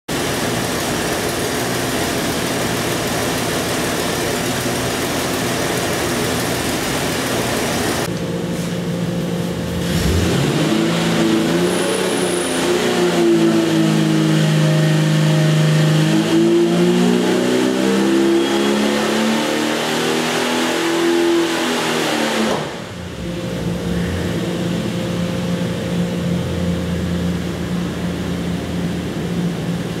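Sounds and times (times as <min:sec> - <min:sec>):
engine running on a dyno: 0:00.1 - 0:30.0.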